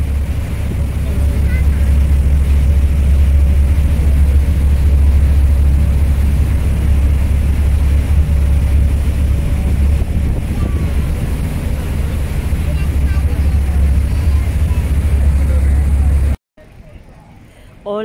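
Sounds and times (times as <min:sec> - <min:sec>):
wind buffeting microphone: 0:00.0 - 0:16.4
ferry engine rumble: 0:00.0 - 0:18.0
rushing wake: 0:00.0 - 0:18.0.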